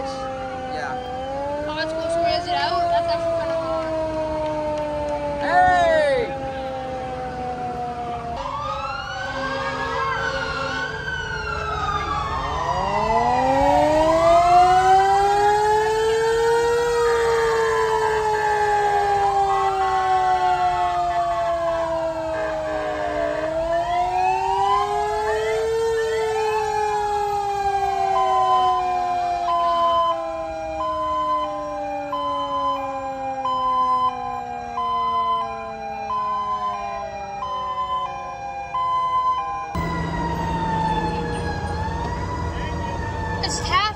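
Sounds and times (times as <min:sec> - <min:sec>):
fire engine sirens wailing: 0:00.0 - 0:43.9.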